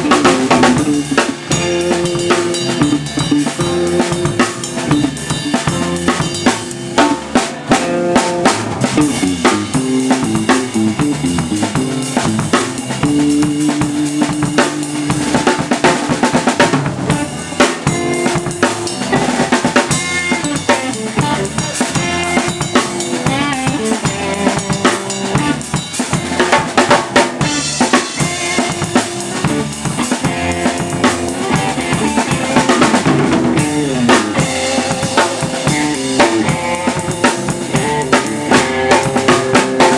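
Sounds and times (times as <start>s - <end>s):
bass drum: 0.0s - 39.9s
bass guitar: 0.0s - 39.9s
electric guitar: 0.0s - 39.9s.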